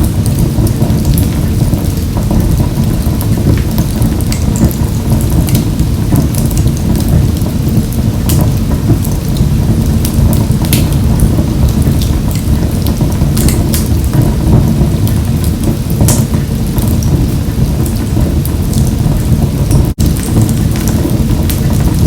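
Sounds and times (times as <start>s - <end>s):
fire rumbling in stove: 0.0s - 22.0s
wood crackling and popping: 0.0s - 22.0s.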